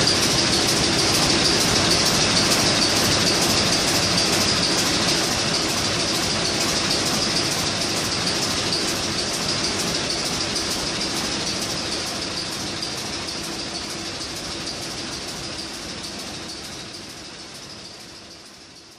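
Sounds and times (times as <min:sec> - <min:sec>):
marine diesel engine running: 0:00.0 - 0:17.2.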